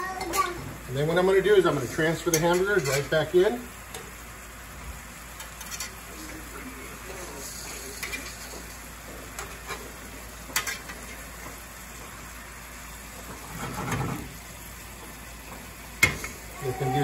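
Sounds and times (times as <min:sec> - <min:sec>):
gravy bubbling and sizzling: 0:00.0 - 0:17.0.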